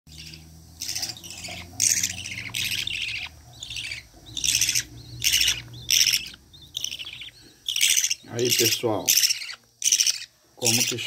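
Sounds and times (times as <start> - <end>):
budgerigars chirping: 0.1 - 11.0.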